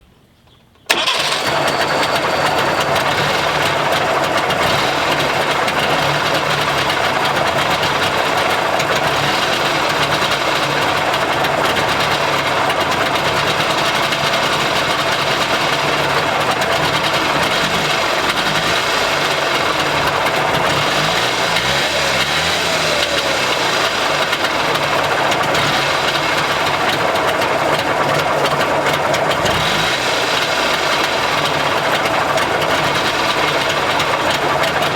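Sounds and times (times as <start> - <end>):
two-stroke engine idling: 0.9 - 34.9.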